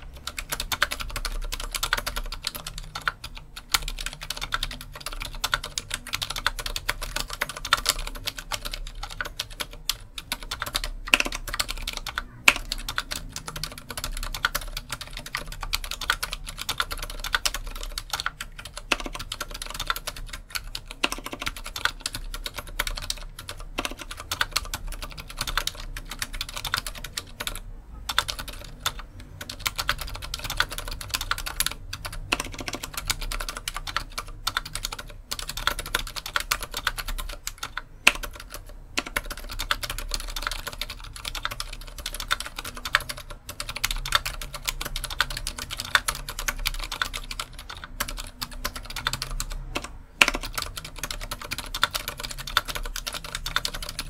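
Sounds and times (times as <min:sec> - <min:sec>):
typing on mechanical keyboard: 0:00.0 - 0:54.0.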